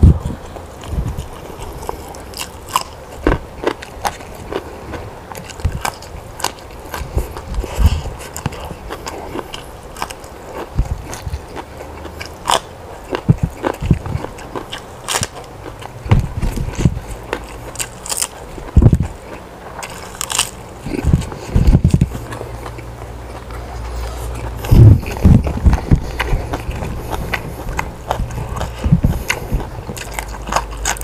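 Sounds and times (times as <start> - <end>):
person eating crunchy food: 0.0 - 31.0.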